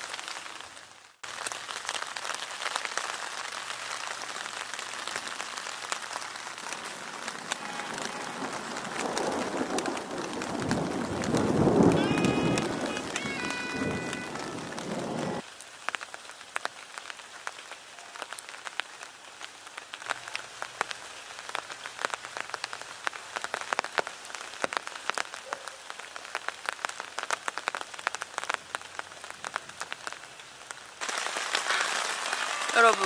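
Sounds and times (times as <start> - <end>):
raindrops tapping a surface: 0.0 - 33.0
steady rain falling: 0.0 - 33.0.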